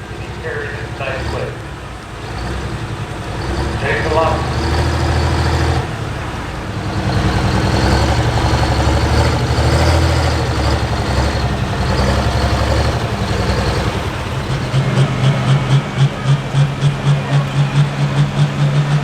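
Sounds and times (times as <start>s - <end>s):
diesel tractor engine droning: 0.0s - 19.0s.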